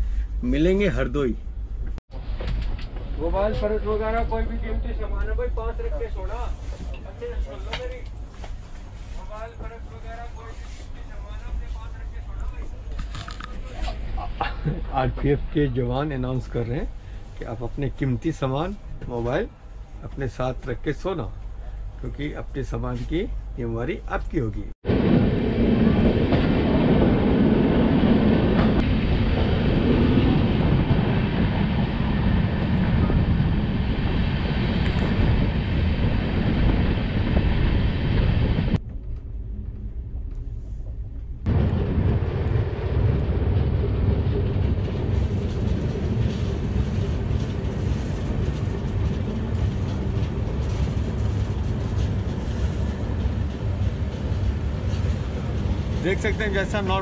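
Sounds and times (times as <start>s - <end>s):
hum inside train coach: 0.0s - 57.0s
train wheel and wind rush: 0.0s - 57.0s.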